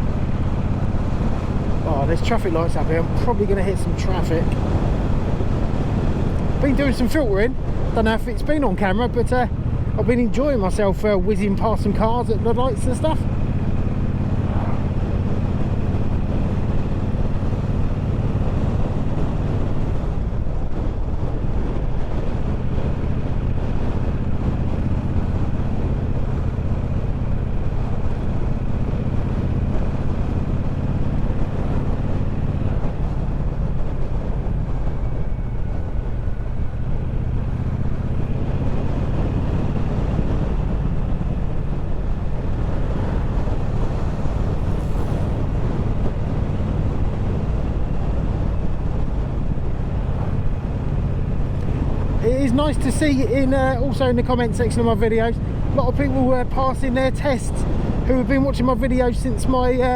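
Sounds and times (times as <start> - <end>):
wind rushing over microphone: 0.0 - 59.9
motorcycle engine running: 8.8 - 59.9.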